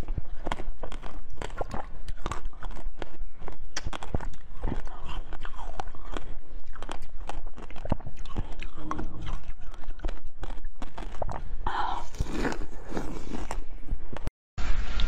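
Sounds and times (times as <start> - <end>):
person chewing food: 0.0 - 14.3.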